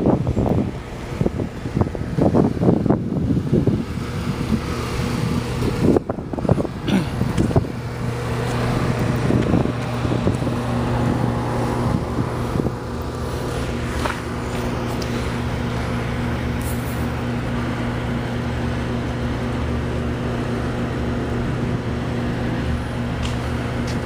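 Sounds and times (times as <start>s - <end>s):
low machine hum: 0.0s - 24.0s
wind buffeting microphone: 0.0s - 24.0s.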